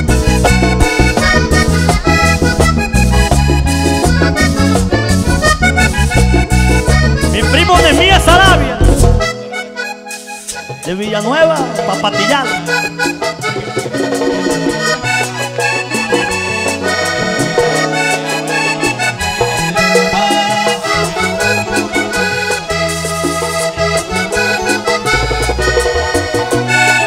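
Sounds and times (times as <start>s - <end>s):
drum and hand percussion: 0.0s - 9.4s, 10.0s - 27.0s
bass: 0.0s - 27.0s
button accordion: 0.0s - 27.0s.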